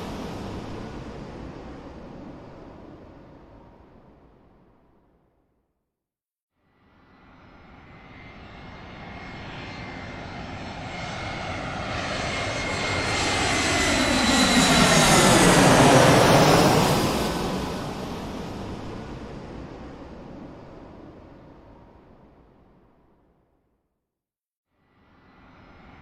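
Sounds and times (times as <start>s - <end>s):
airplane flying overhead: 0.0s - 4.3s, 6.9s - 22.5s, 25.0s - 26.0s.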